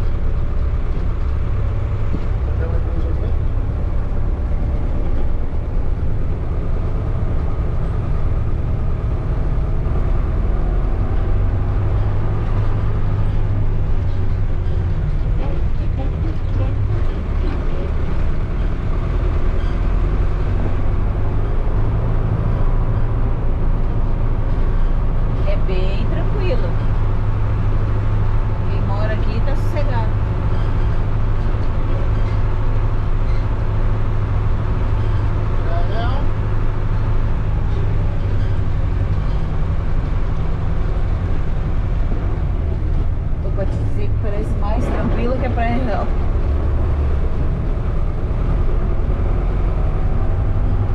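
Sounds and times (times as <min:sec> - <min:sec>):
road noise: 0:00.0 - 0:50.9
vehicle engine rumbling: 0:00.0 - 0:50.9.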